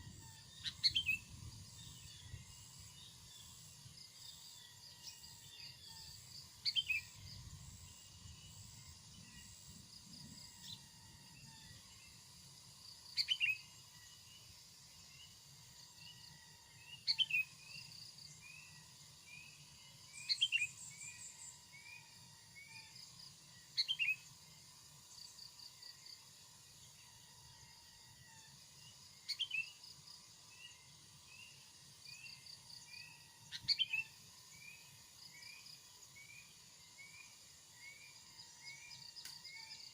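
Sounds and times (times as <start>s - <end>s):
birds chirping softly: 0.0s - 39.9s
insects buzzing high-pitched: 0.0s - 39.9s.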